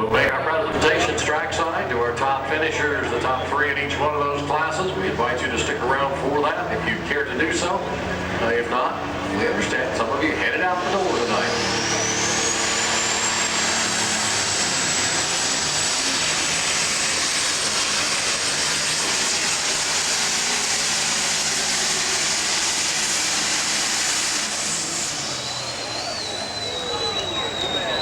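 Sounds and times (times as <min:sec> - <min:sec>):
tractor engine at full throttle: 0:00.0 - 0:28.0
turbocharger whine: 0:00.8 - 0:28.0.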